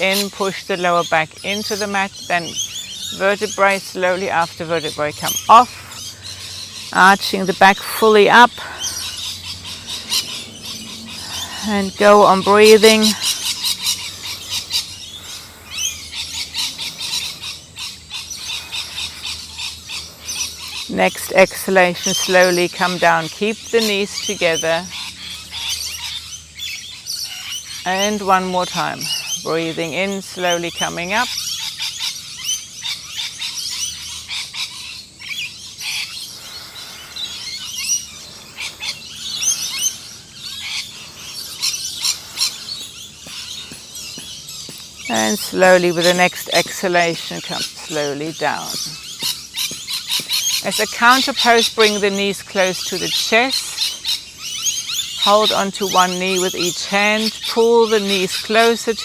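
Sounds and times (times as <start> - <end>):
birds chirping: 0.0 - 59.0
sweeping bird calls: 0.0 - 59.0.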